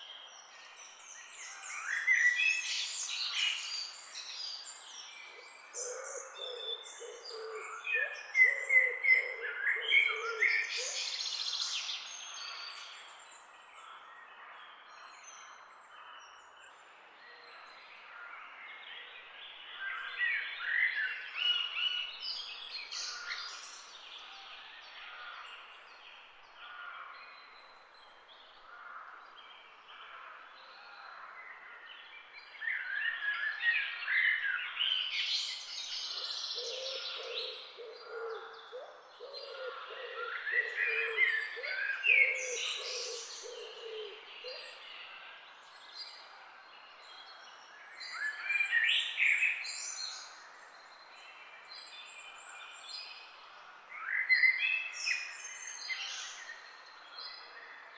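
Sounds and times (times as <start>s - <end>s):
songbirds chirping and singing: 0.0s - 57.9s.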